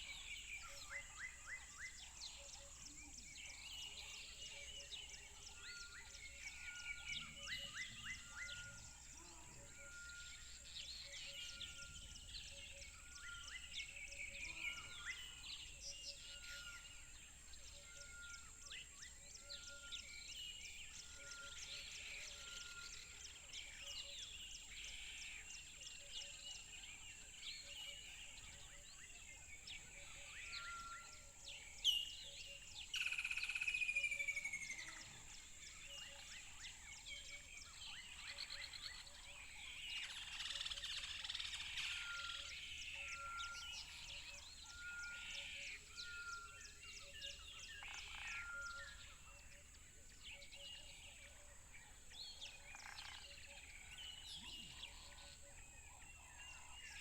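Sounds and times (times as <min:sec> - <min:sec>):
wild birds chirping and singing: 0:00.0 - 0:57.0.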